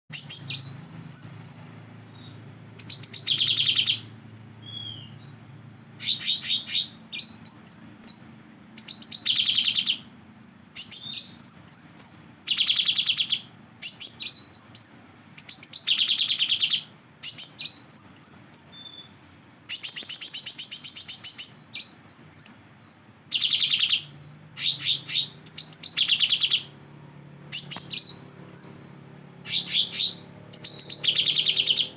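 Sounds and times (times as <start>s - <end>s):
leafbird singing: 0.1s - 31.9s.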